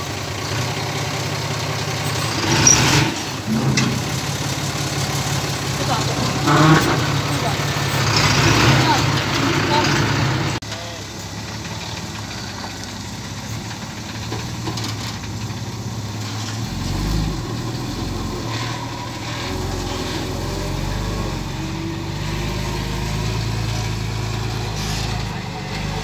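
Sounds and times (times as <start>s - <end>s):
truck diesel engine rumbling: 0.0s - 26.0s.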